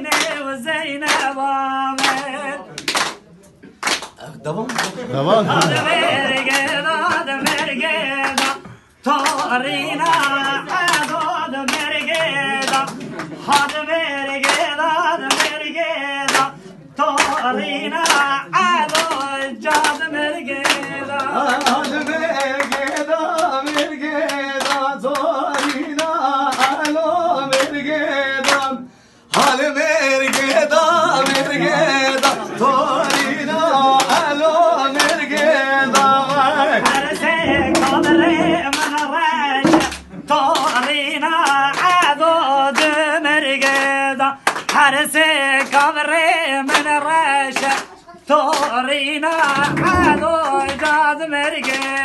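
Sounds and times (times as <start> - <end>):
people clapping on a beat: 0.0 - 52.0
men singing a folk song: 5.4 - 47.7.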